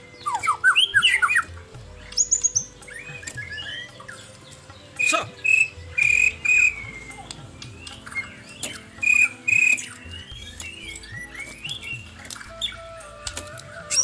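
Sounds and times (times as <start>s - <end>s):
bird whistled song: 0.0s - 14.0s.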